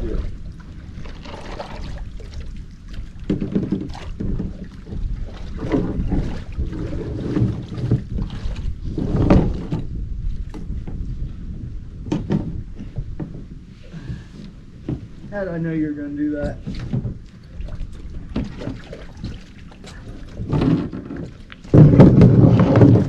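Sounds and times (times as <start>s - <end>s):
kayak knocking: 0.0s - 11.0s, 12.0s - 23.0s
water sloshing: 0.0s - 11.2s, 12.2s - 23.0s
wind on microphone: 0.0s - 23.0s.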